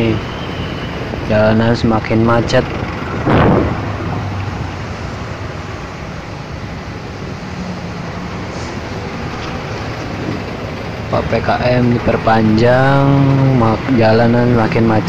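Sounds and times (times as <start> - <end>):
low hum: 0.0 - 15.0
traffic jam engine noise: 0.0 - 15.0.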